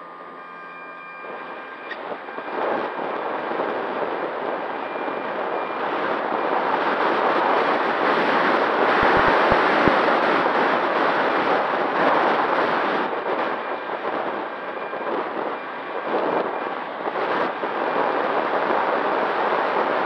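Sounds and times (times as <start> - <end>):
electric motor whine: 0.0 - 20.0
wind rushing over camera: 0.0 - 20.0.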